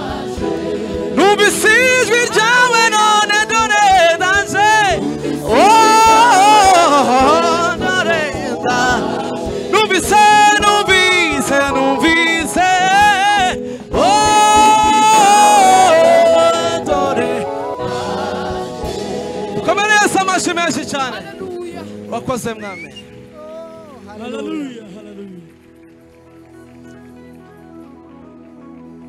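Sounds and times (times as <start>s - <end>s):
gospel singing with vibrato: 0.0s - 25.5s.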